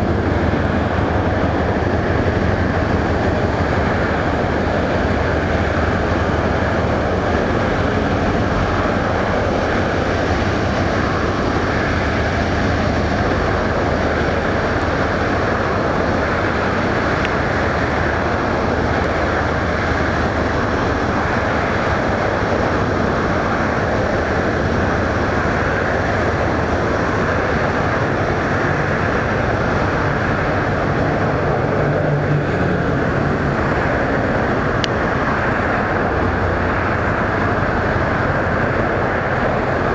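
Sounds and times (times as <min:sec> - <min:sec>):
engines rumbling: 0:00.0 - 0:39.9.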